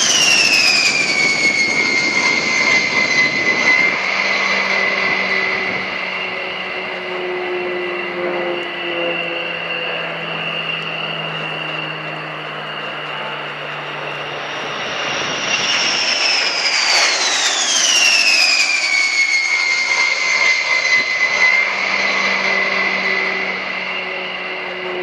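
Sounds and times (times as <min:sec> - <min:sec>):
plane engines whining: 0:00.0 - 0:25.0.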